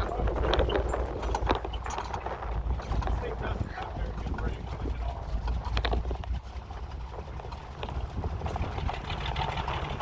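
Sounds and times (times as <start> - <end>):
low engine rumble: 0.0 - 10.0
vehicle body rattling and knocking: 0.0 - 10.0.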